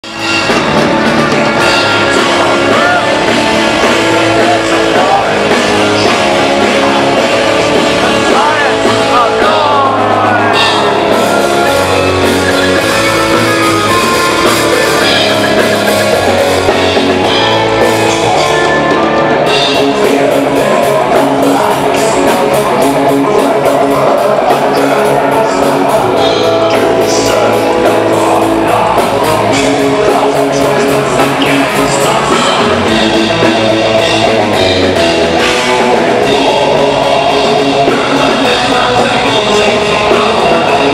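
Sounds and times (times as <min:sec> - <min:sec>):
metal band playing live: 0:00.0 - 0:40.9.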